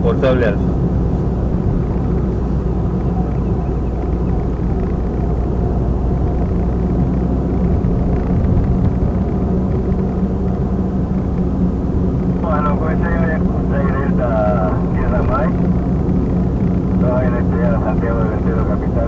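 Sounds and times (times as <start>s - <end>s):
car engine rumble: 0.0s - 19.0s
tyre road noise: 0.0s - 19.0s.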